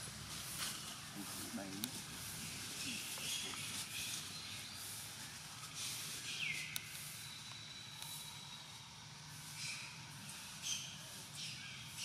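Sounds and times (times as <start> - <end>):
faint outdoor ambience with hiss: 0.0 - 12.0.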